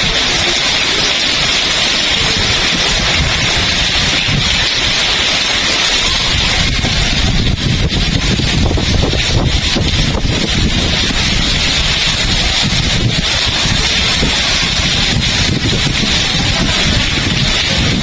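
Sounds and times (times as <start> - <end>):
heavy rain falling: 0.0 - 18.0
wind buffeting microphone: 0.0 - 18.0.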